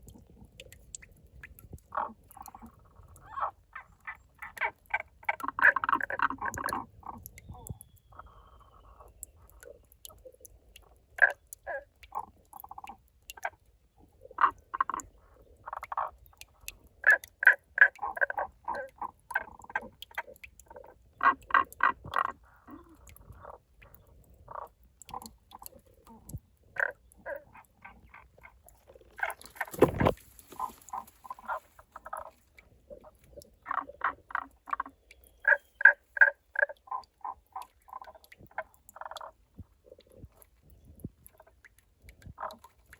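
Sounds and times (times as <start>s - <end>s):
frogs croaking: 1.9s - 13.6s, 14.2s - 40.4s, 42.3s - 42.7s.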